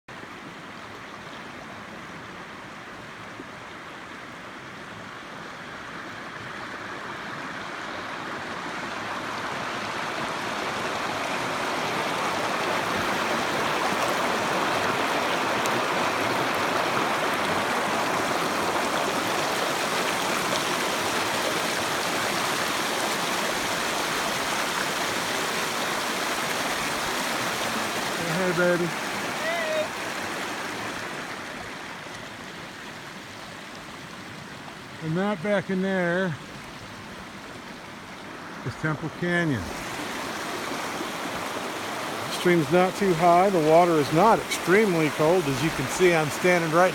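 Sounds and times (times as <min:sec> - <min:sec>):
stream water rushing: 0:00.1 - 0:46.9.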